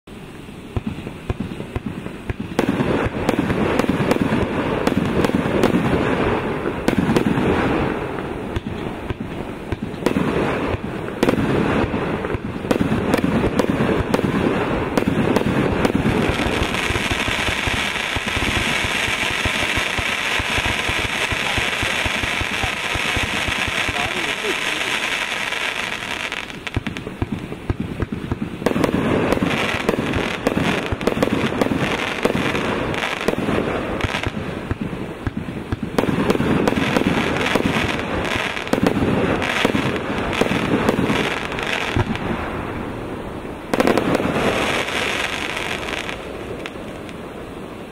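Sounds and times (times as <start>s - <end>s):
dense fireworks crackling: 0.0s - 47.9s
fireworks launches and bursts: 0.0s - 47.9s.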